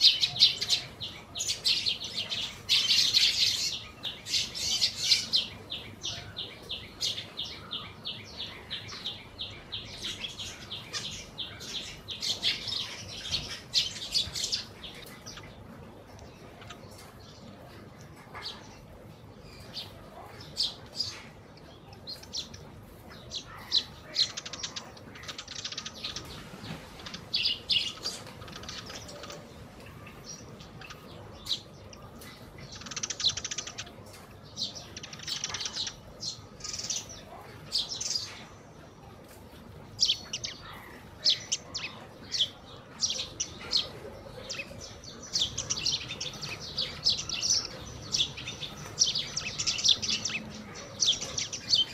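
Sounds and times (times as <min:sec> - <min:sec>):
sparrows chirping: 0:00.0 - 0:51.9.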